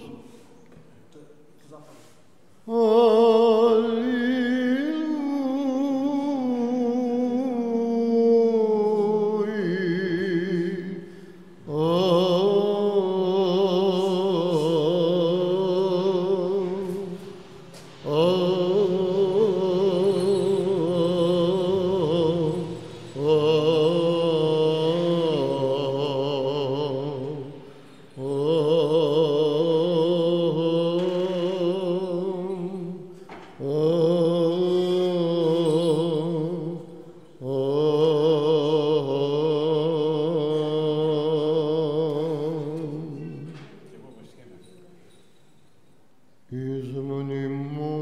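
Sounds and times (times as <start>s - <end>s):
man chanting: 0.0s - 0.4s, 1.2s - 44.8s, 46.5s - 48.0s.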